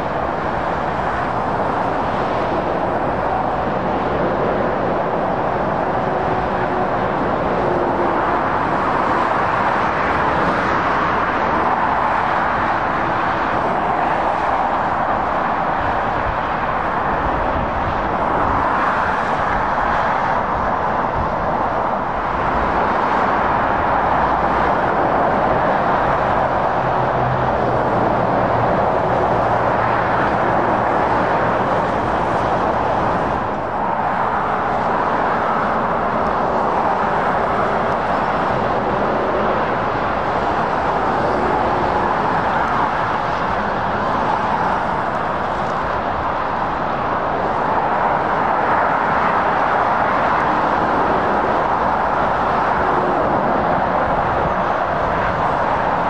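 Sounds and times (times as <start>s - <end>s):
heavy motorway traffic roar: 0.0s - 56.0s
lorry engine drone: 0.0s - 56.0s.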